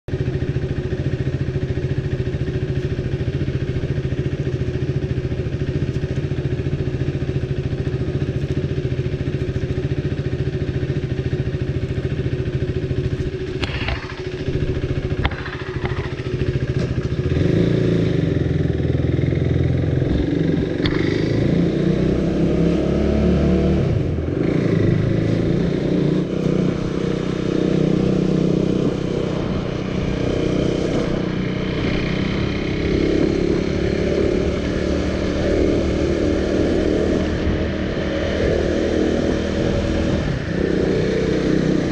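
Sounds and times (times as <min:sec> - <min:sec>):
motorcycle engine revving: 0:00.1 - 0:41.9.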